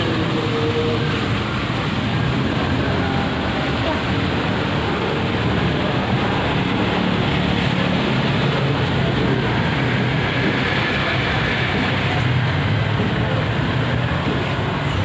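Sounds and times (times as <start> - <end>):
cars driving past: 0.0 - 15.0
low hum of engines: 0.0 - 15.0
tyre noise on wet road: 0.0 - 15.0.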